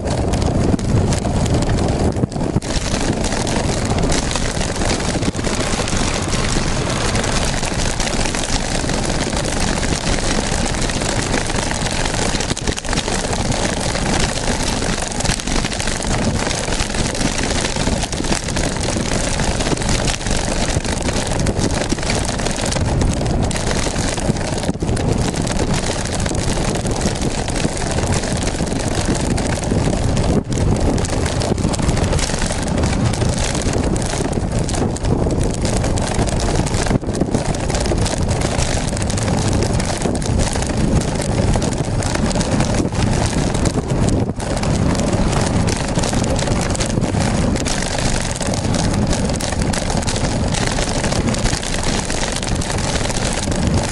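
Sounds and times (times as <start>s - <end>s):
wind rush on microphone: 0.0s - 53.9s.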